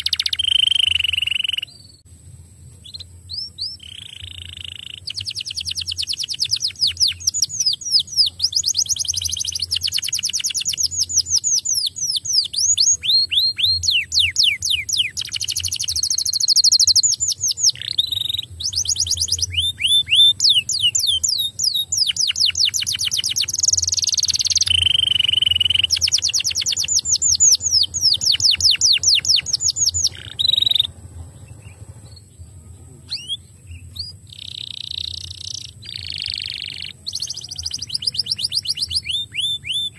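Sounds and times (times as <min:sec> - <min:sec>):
canary singing trills: 0:00.0 - 0:02.1, 0:02.7 - 0:39.9.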